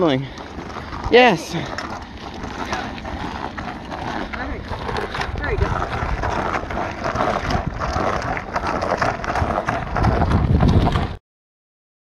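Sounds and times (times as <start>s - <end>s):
bike rolling on concrete: 0.0s - 11.2s
wind rumbling on microphone: 0.0s - 11.2s.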